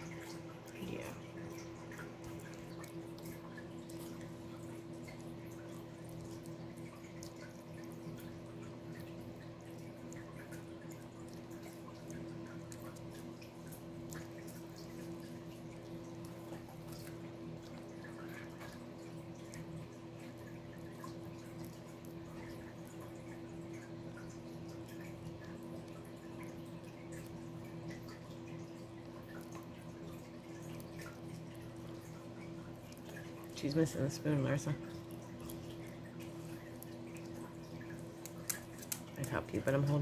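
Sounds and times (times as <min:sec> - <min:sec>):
puppy licking food: 0:00.0 - 0:40.0.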